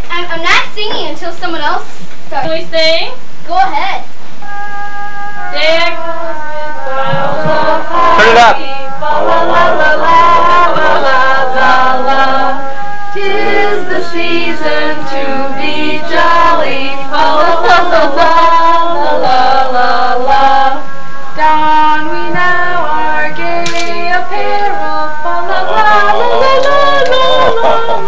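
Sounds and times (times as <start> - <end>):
music with singing voices: 4.4 - 28.0.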